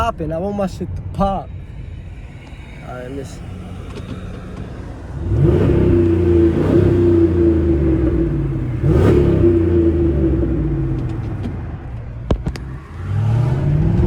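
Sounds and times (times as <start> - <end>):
car engine revving: 0.4 - 14.0.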